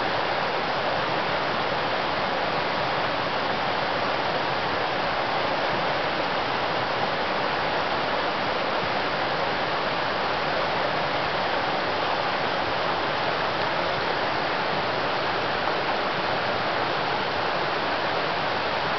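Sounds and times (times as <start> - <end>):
stream rushing over rocks: 0.0 - 18.9.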